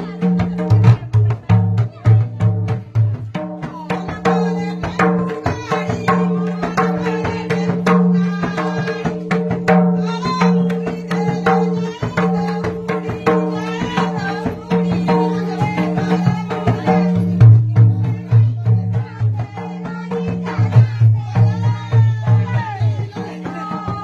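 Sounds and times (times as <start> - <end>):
hand drum beaten: 0.0 - 24.0.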